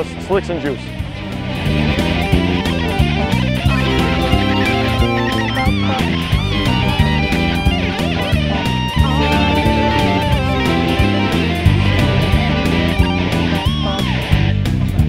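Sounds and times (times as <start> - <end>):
bass guitar: 0.0 - 15.0
rock music: 0.0 - 15.0
electric guitar: 0.8 - 15.0
drum beat: 1.1 - 14.2.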